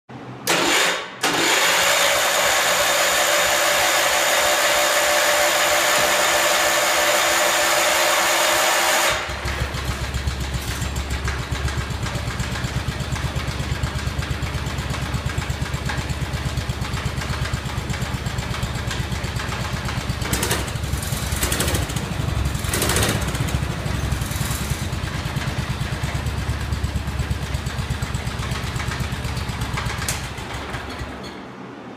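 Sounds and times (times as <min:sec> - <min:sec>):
garden tractor engine running: 0:00.4 - 0:31.3.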